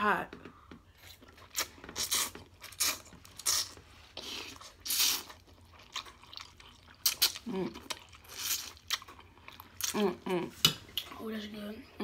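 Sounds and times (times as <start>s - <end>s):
people chewing: 0.4s - 11.2s.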